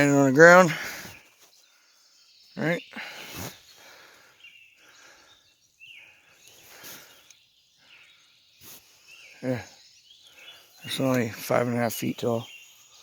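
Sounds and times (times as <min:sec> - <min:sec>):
faint bird chirps: 0:00.0 - 0:13.0
steady outdoor hiss: 0:00.0 - 0:13.0.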